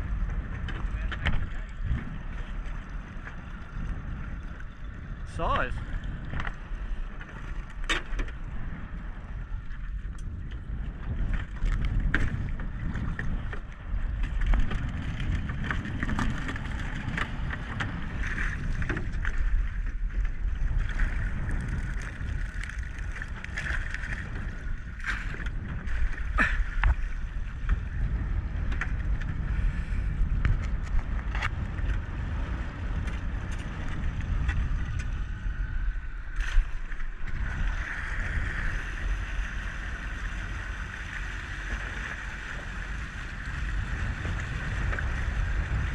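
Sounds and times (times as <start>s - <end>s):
water and wind rumble: 0.0s - 45.9s.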